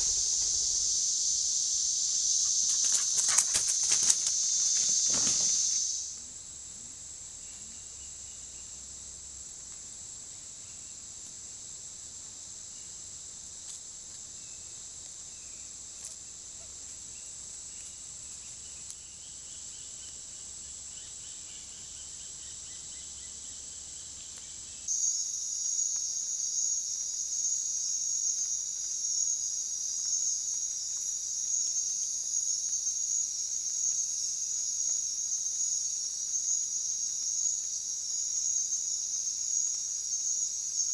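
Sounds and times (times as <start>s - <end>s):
insect chorus drone: 0.0s - 40.9s.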